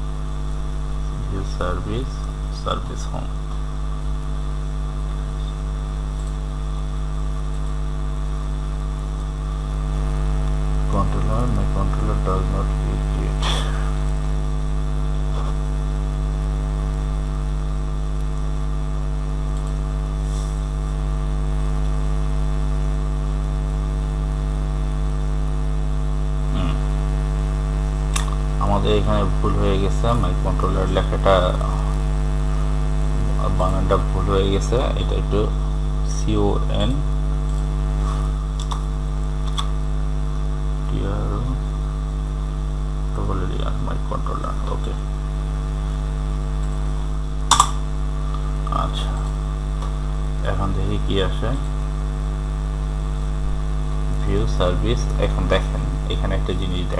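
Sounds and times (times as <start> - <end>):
electrical mains hum: 0.0 - 56.9.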